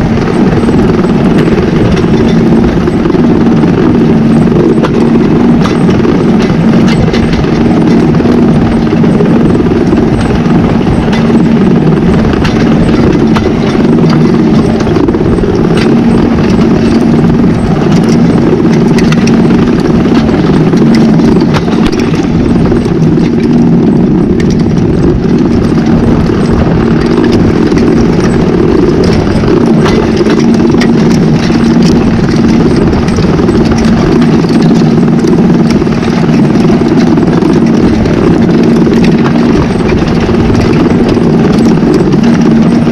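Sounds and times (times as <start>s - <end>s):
tractor engine droning: 0.0s - 42.9s.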